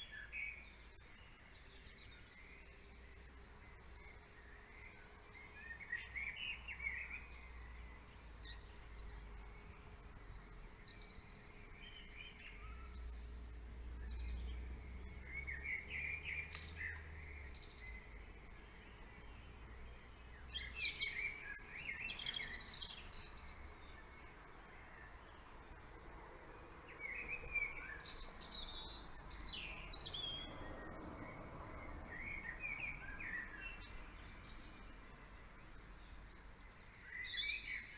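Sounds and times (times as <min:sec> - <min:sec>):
songbirds singing and chirping: 0:00.0 - 0:37.9.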